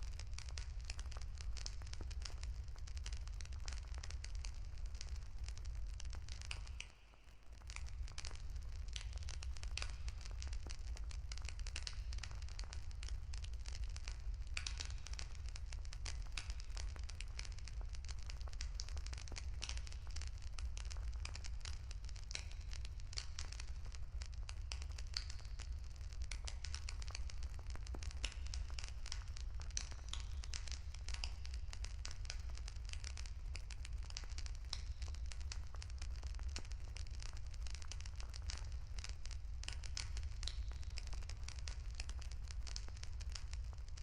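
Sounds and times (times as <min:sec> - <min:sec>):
campfire crackling: 0:00.1 - 0:06.8, 0:07.6 - 0:44.0.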